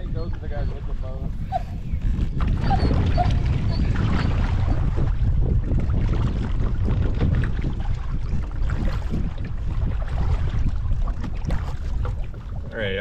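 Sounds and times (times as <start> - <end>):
wind buffeting microphone: 0.0 - 13.0
water splashing against kayak: 1.2 - 13.0.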